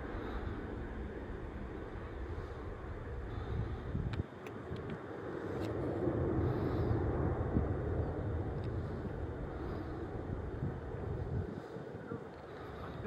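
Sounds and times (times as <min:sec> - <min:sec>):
airliner jet engines rumbling: 0:00.0 - 0:13.0.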